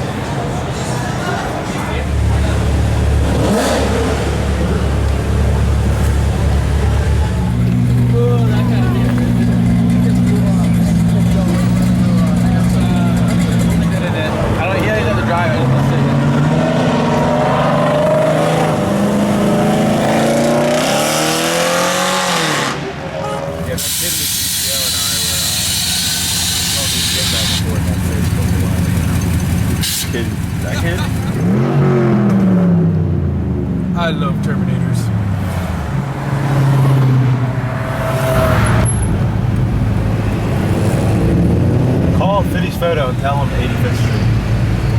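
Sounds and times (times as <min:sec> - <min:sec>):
traffic: 0:00.0 - 0:44.9
car engine revving: 0:01.9 - 0:44.9.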